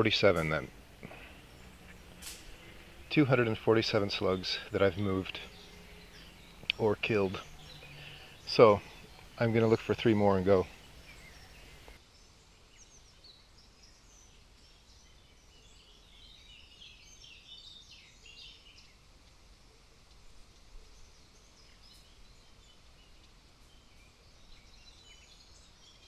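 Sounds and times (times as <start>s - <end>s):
low steady background noise: 0.0s - 26.0s
small birds chirping: 0.0s - 26.0s.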